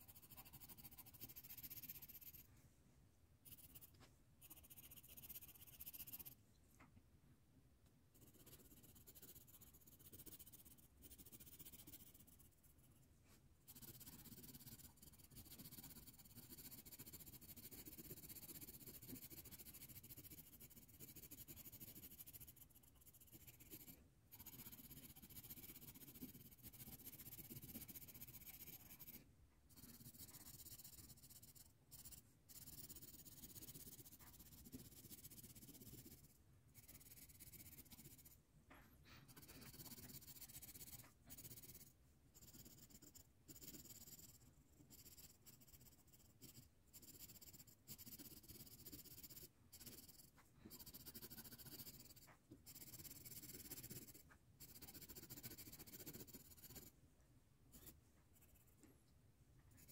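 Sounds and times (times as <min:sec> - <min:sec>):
colored pencil scratching on paper: 0:00.0 - 0:02.8, 0:03.4 - 0:06.4, 0:08.0 - 0:57.0, 0:57.6 - 0:59.9.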